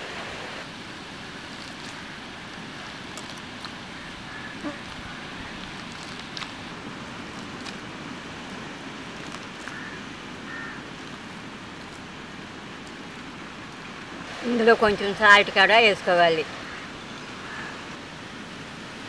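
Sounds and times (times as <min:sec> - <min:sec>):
outdoor ambience hiss: 0:00.0 - 0:19.0.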